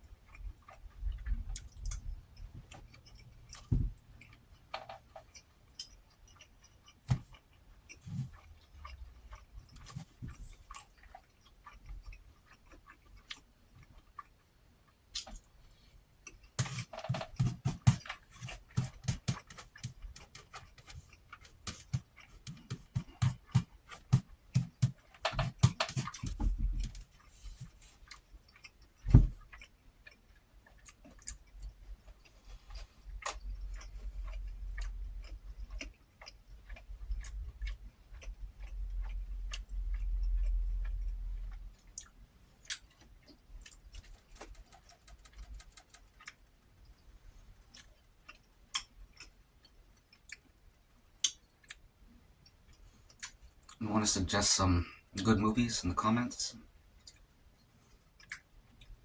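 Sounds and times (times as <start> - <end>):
wet chewing and mouth clicks: 0.0 - 53.8, 56.9 - 59.0.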